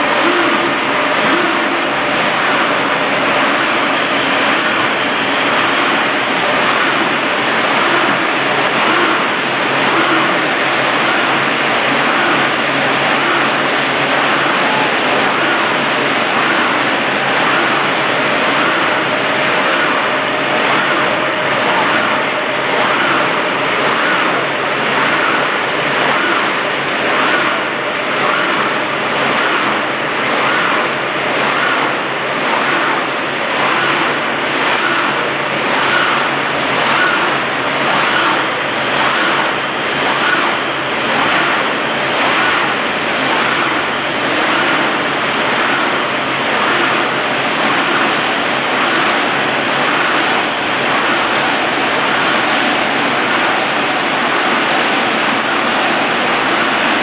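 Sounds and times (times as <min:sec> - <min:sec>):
welding machine cycling: 0:00.0 - 0:57.0.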